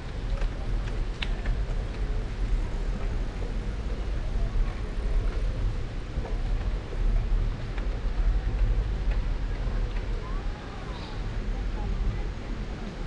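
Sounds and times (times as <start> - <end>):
faint voices: 0.0 - 13.0
wind and rolling rumble: 0.0 - 13.0.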